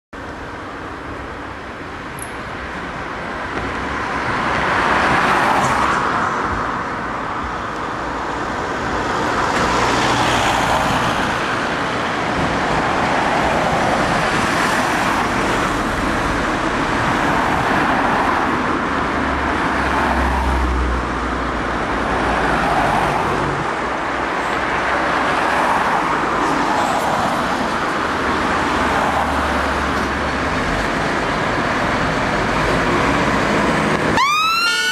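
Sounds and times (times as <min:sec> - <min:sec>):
cars passing by: 0:00.2 - 0:34.9.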